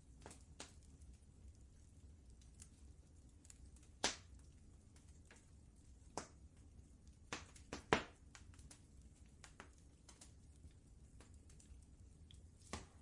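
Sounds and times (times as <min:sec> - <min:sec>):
faint low rumble: 0:00.0 - 0:13.0
wood fire crackling and popping: 0:00.0 - 0:13.0.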